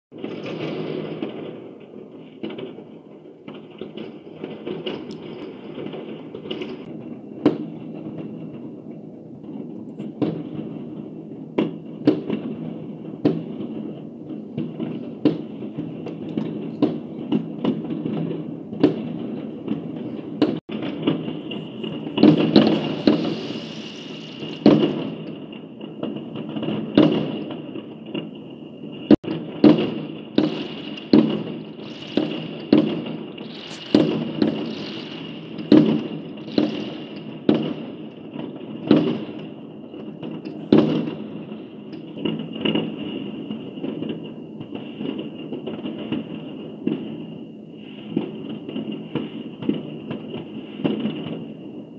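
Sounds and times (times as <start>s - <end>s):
fireworks bangs and pops: 0.1s - 51.9s
rumble of distant explosions: 0.2s - 51.9s.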